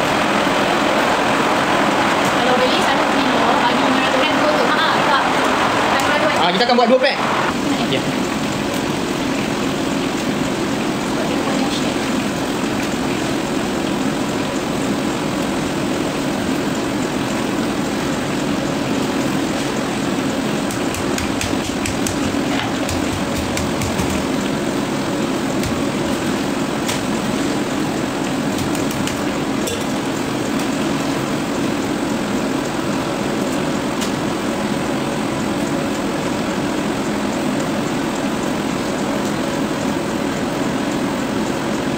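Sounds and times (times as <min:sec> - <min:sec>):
gas burner roaring: 0:00.0 - 0:41.9
oil sizzling: 0:00.0 - 0:41.9.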